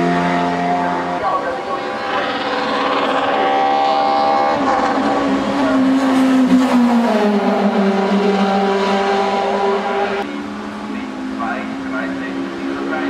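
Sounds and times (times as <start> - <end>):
racing car engine high revs: 0.0 - 13.0.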